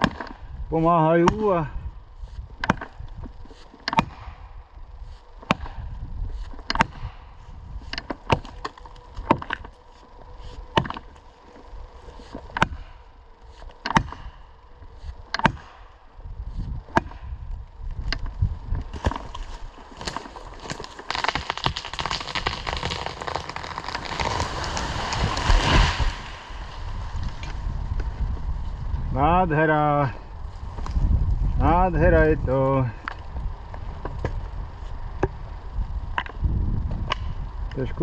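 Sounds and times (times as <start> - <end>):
tree crackling rustle: 0.0 - 37.9.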